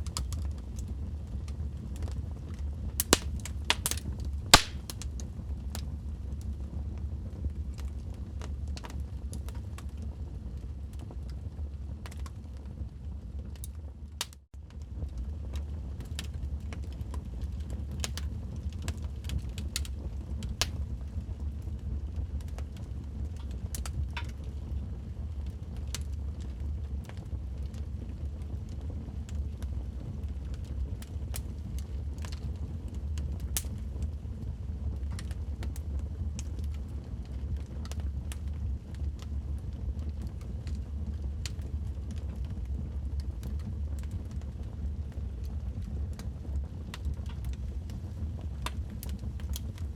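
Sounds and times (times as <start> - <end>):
log fire crackling: 0.0 - 49.9.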